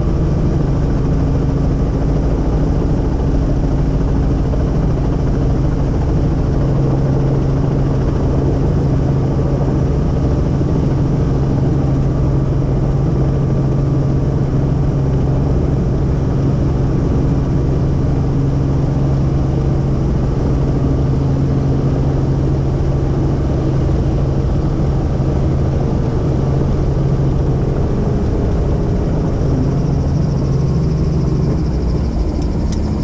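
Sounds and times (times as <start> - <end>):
helicopter cabin drone: 0.0 - 33.0.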